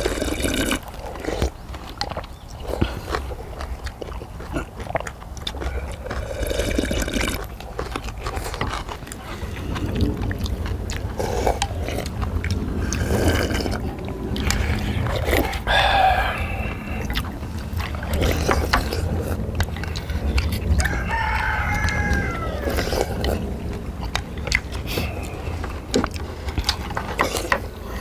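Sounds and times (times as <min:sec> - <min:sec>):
chewing: 0:00.0 - 0:28.0
people slurping: 0:00.0 - 0:28.0
steady low rumble: 0:00.0 - 0:28.0.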